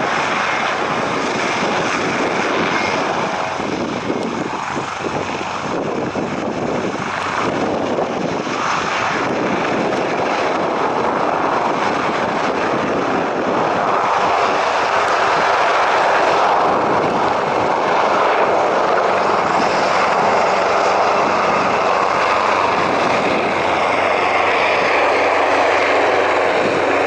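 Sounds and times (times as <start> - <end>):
jet engines roaring: 0.0 - 27.0
wind noise on microphone: 0.0 - 27.0.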